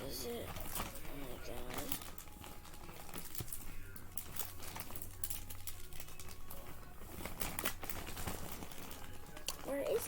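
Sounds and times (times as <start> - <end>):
faint voice or music: 0.0 - 10.0
rummaging through small items: 0.0 - 10.0.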